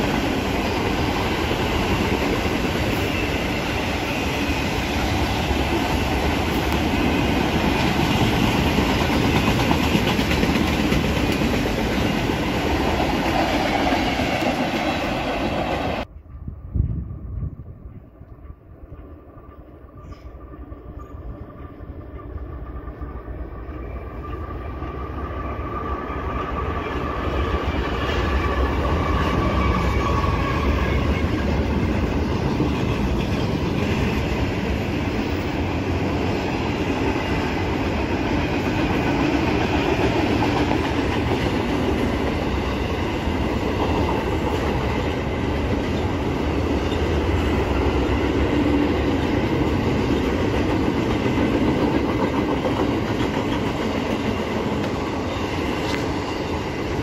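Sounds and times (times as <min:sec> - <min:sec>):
diesel freight train passing: 0:00.0 - 0:57.0.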